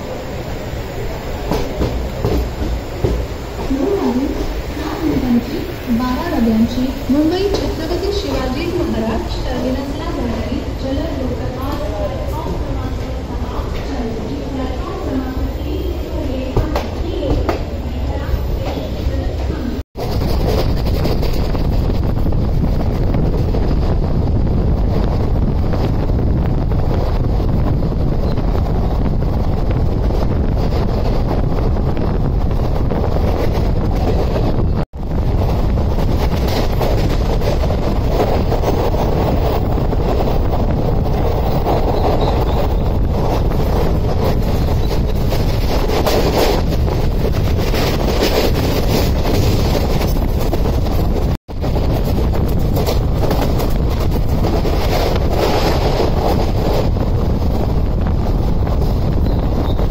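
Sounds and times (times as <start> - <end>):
moving train running noise: 0.0 - 59.9
wind buffeting microphone: 0.0 - 59.9.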